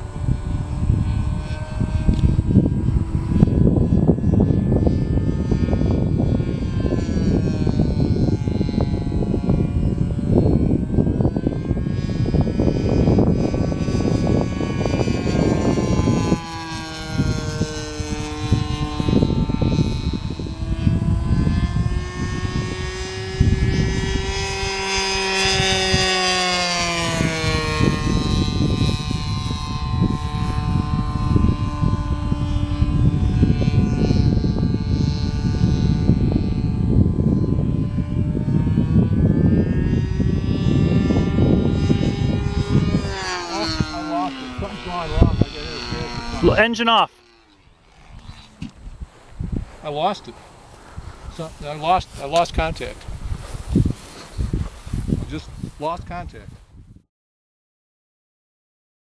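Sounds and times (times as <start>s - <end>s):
model airplane engine: 0.0s - 57.0s
wind buffeting microphone: 0.0s - 57.1s.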